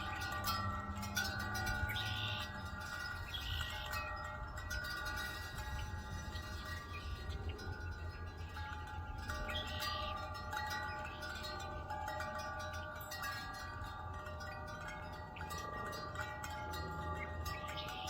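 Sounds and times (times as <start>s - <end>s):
low rumble of wind: 0.0s - 18.0s
wind chimes ringing: 0.0s - 18.0s.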